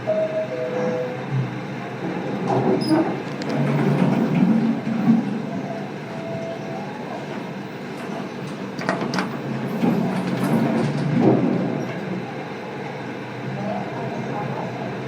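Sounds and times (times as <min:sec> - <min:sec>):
lift rumbling hum: 0:00.0 - 0:15.0.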